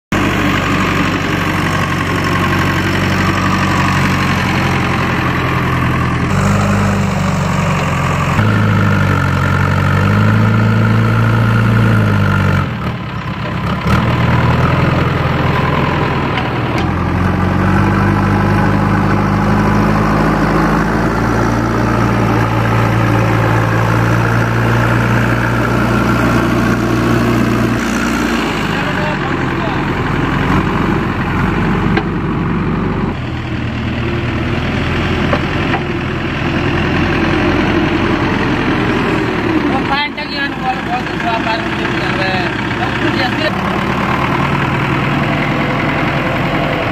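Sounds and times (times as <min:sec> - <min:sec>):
diesel engine under load: 0:00.1 - 0:46.9.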